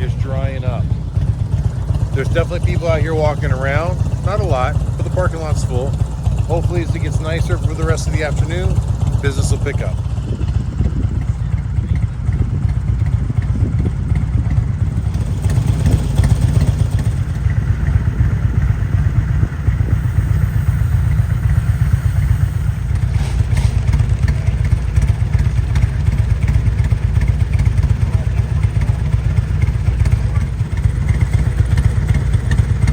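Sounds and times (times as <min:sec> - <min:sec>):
motorcycle engines rumbling: 0:00.0 - 0:32.9.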